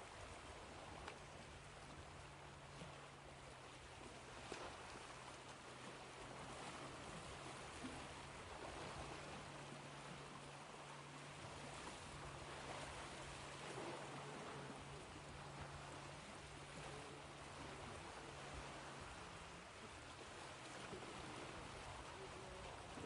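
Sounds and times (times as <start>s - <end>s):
ocean waves washing ashore: 0.0s - 23.0s.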